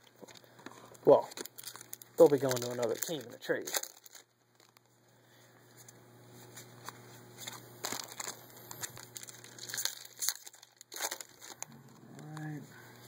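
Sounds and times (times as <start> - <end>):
card wrappers crinkling: 0.0 - 5.0, 6.6 - 12.5.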